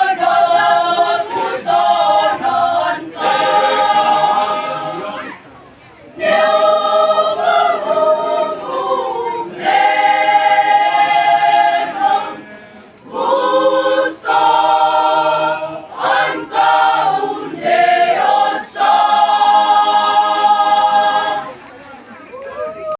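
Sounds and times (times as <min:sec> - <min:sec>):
mixed choir singing a cappella: 0:00.0 - 0:05.4, 0:06.1 - 0:21.6.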